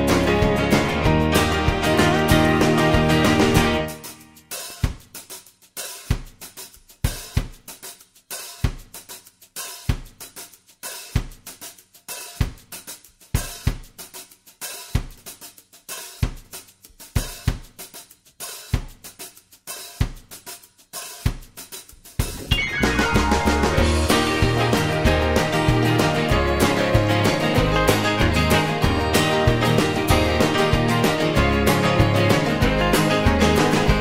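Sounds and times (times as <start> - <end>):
drum kit playing a beat: 0.0 - 34.0.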